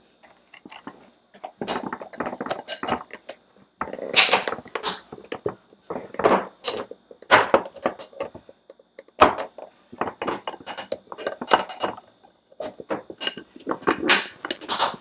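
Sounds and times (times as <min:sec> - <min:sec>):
glass containers being handled: 0:00.3 - 0:15.0.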